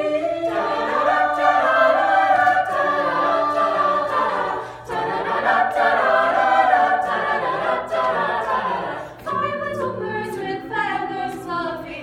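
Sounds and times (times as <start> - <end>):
a cappella choir singing: 0.0 - 12.0.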